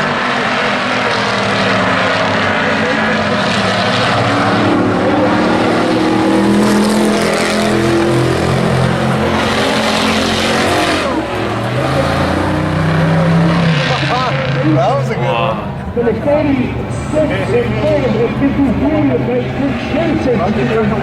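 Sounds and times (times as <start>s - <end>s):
race truck engines: 0.0s - 21.0s.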